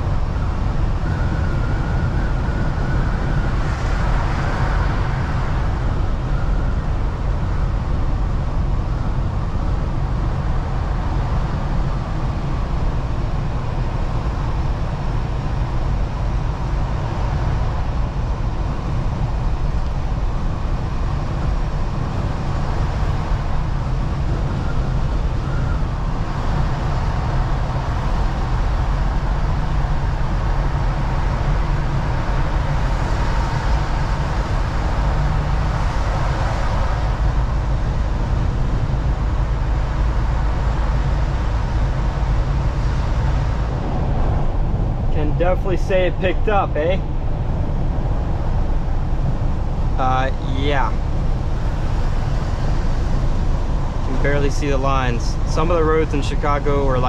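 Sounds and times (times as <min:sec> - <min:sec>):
road noise inside vehicle: 0:00.0 - 0:57.0
truck engine rumble: 0:00.0 - 0:57.0.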